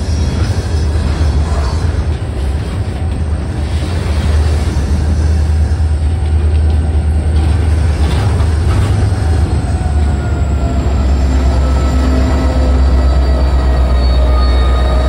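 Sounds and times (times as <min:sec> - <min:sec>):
diesel locomotive engine: 0:00.0 - 0:15.0
freight train cars rumbling past: 0:00.0 - 0:15.0.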